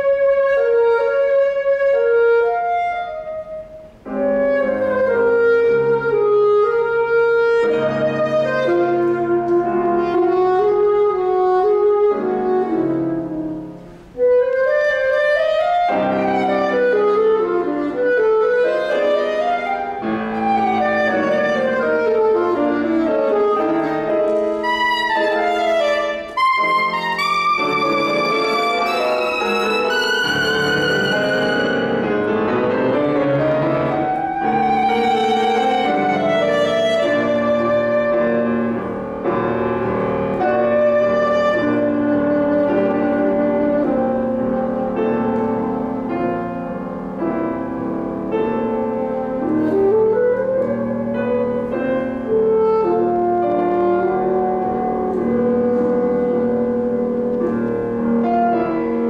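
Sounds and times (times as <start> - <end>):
saxophone with vibrato: 0.0 - 38.8, 49.2 - 59.0
piano chords: 0.0 - 59.0.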